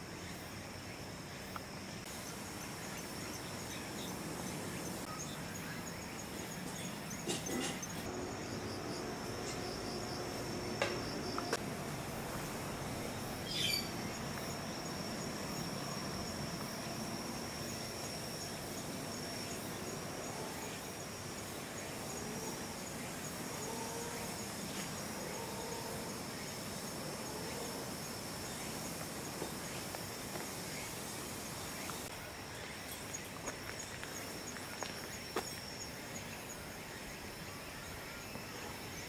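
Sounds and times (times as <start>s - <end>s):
outdoor background hiss: 0.0s - 39.0s
high-pitched insect trill: 2.1s - 37.9s.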